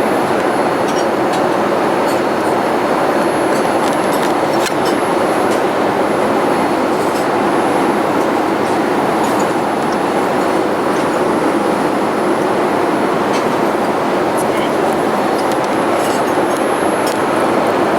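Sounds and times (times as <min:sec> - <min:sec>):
airliner cabin engine rush: 0:00.0 - 0:17.9.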